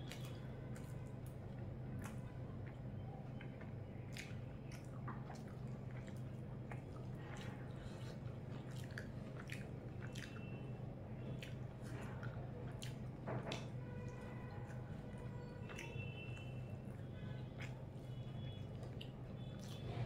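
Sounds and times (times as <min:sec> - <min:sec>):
food squishing by hand: 0:00.0 - 0:20.0
wet chewing and lip smacks: 0:00.0 - 0:20.0.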